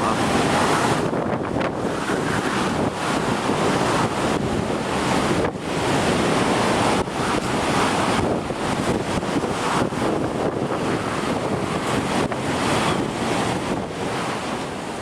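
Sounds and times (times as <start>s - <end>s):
strong wind gusts: 0.0s - 15.0s.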